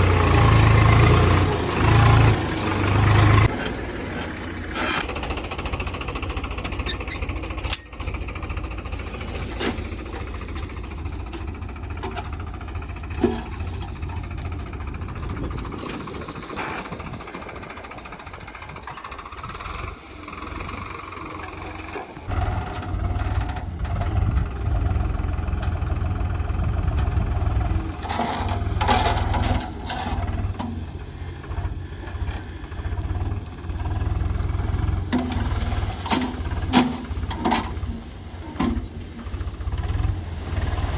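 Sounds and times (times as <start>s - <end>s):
diesel engine rumbling: 0.0s - 40.9s.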